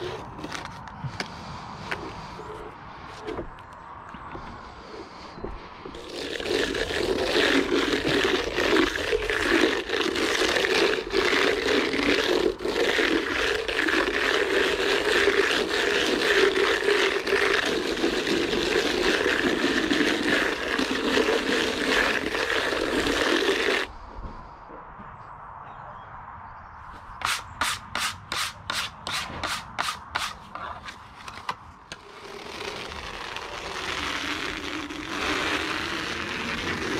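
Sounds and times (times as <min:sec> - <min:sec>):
float scraping on wall render: 0:00.0 - 0:24.0, 0:27.2 - 0:36.9.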